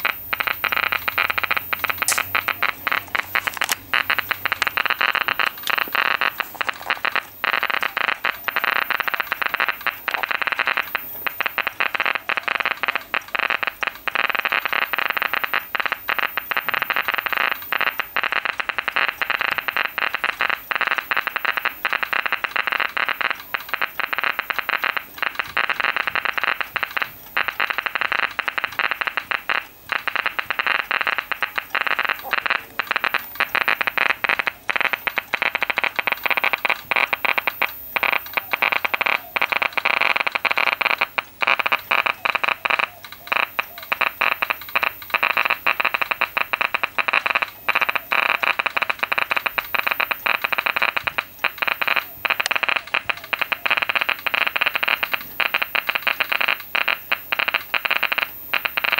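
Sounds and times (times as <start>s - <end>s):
geiger counter crackling clicks: 0.0s - 58.9s.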